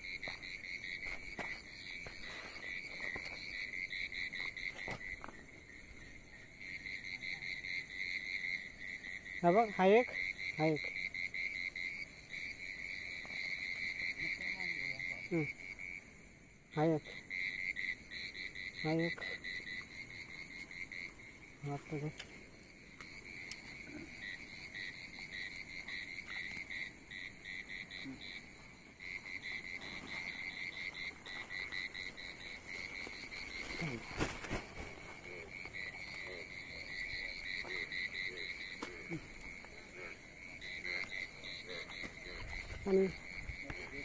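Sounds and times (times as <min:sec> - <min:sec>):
frogs calling in chorus: 0:00.0 - 0:44.0.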